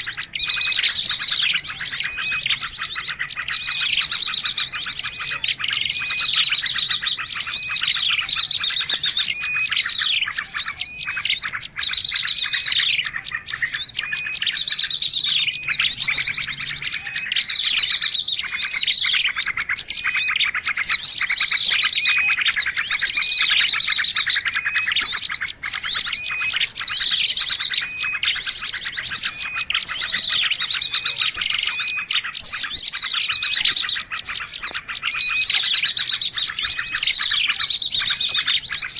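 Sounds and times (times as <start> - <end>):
small birds chirping and trilling: 0.0 - 38.9.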